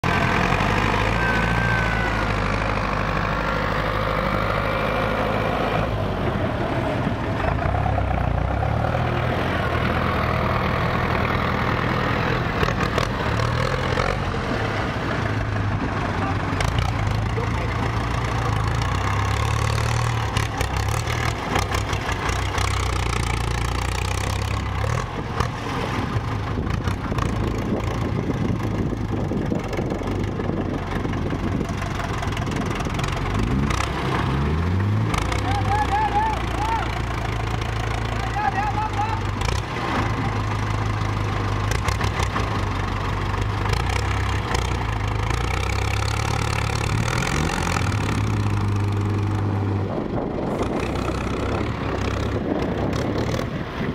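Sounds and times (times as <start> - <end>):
diesel engines idling: 0.0 - 53.9.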